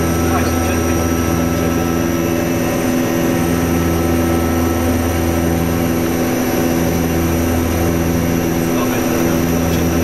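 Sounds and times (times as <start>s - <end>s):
constant rush of noise: 0.0s - 10.0s
propeller engines droning: 0.0s - 10.0s.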